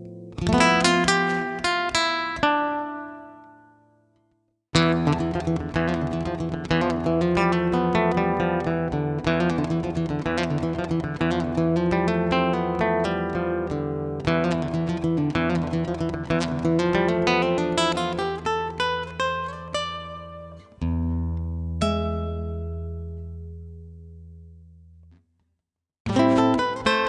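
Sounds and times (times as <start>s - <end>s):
acoustic guitar picking: 0.0s - 3.8s, 4.8s - 23.8s, 26.1s - 27.0s.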